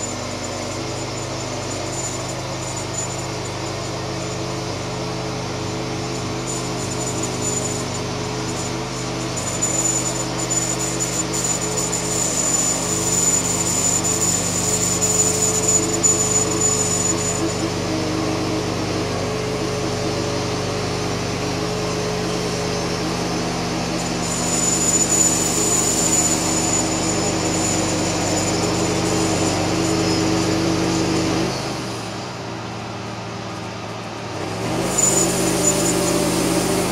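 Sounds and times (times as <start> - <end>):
high whine of saw blade: 0.0 - 36.9
sawmill engine droning: 0.0 - 36.9.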